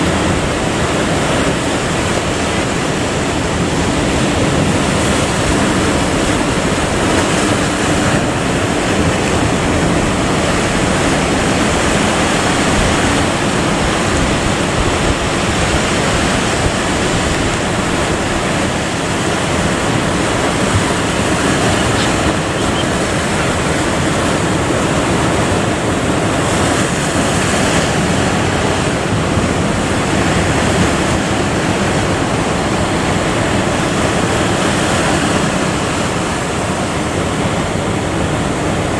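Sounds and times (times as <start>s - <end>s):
sea waves: 0.0s - 38.9s.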